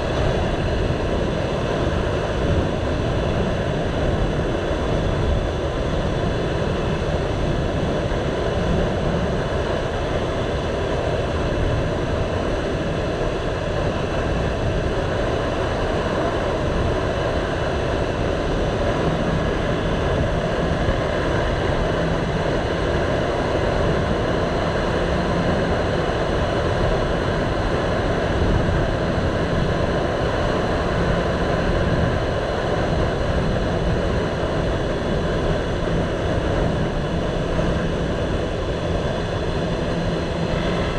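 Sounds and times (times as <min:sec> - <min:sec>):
wind noise on microphone: 0:00.0 - 0:40.9.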